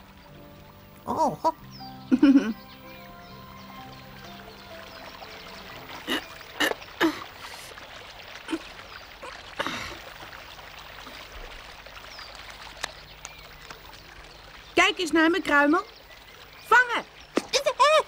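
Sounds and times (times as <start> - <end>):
stream trickling: 0.0 - 18.0.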